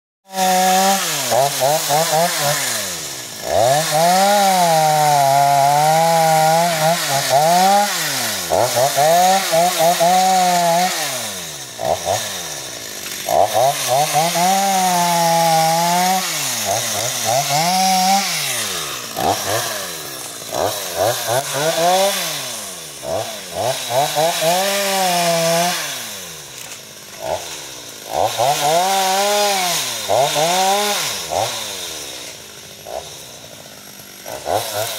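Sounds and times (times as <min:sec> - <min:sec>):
chainsaw revving and cutting: 0:00.3 - 0:34.9.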